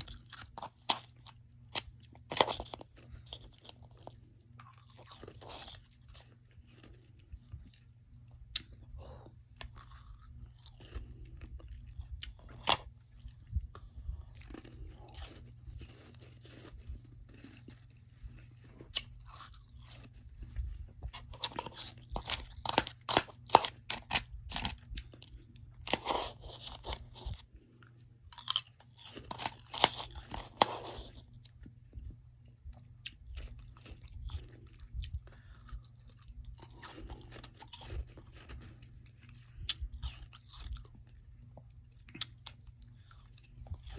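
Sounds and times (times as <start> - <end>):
chewing and crunching frost: 0.0 - 43.9.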